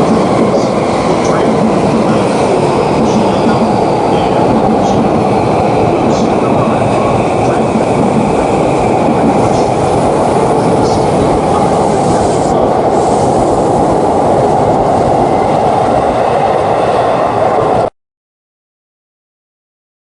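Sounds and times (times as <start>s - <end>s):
train rolling on rails: 0.0s - 17.9s.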